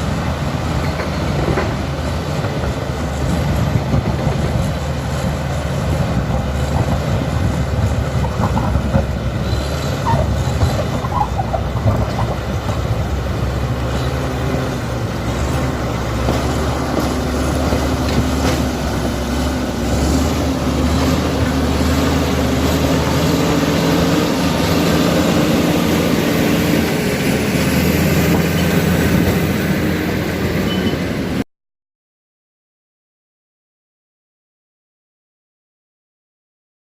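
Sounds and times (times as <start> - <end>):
bulldozer diesel engine running: 0.0 - 31.4
steel tracks clattering and squealing: 0.0 - 31.4.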